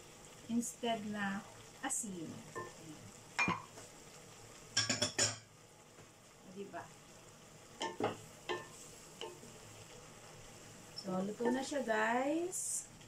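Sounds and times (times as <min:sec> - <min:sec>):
vegetables sizzling: 0:00.0 - 0:13.0.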